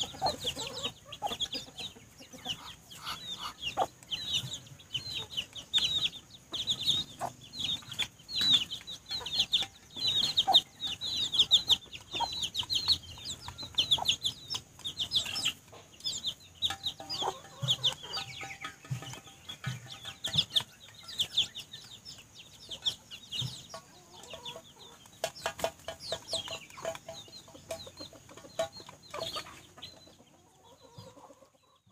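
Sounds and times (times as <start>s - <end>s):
chickens clucking: 0.0s - 31.9s
chicks peeping: 0.0s - 31.9s
beaks pecking metal bowl: 2.5s - 30.1s.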